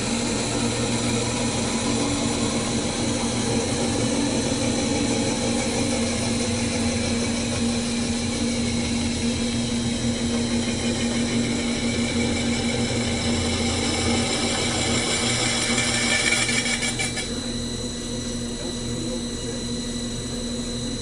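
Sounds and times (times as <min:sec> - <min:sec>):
metal spinning lathe humming: 0:00.0 - 0:21.0.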